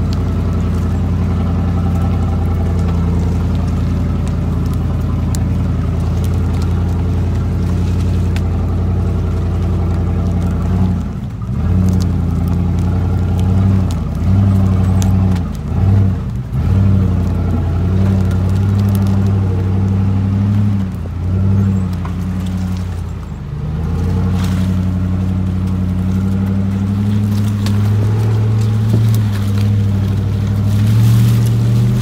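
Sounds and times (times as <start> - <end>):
pickup truck engine running: 0.0 - 32.0.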